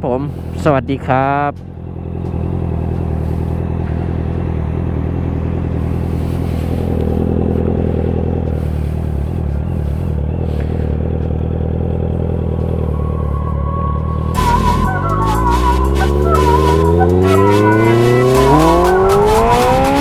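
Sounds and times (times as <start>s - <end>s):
motorcycle engine running: 1.5s - 13.4s, 14.0s - 20.0s.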